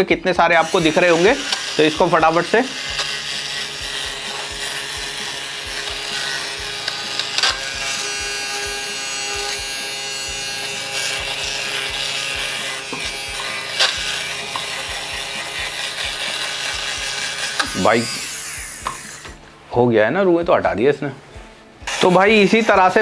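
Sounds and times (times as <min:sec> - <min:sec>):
lint remover motor whirring: 0:00.5 - 0:19.4, 0:21.8 - 0:23.0.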